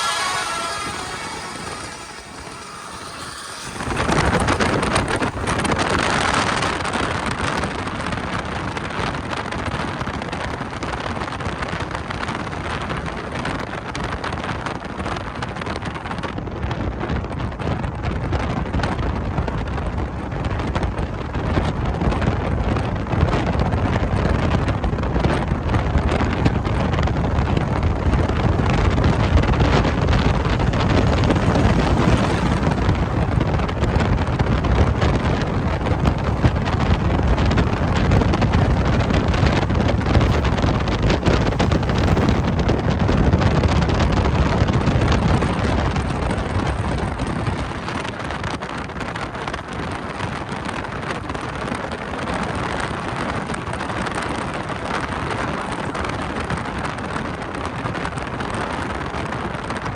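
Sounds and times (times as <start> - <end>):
vehicle road and engine noise: 0.0 - 59.9
wind buffeting microphone: 0.0 - 59.9.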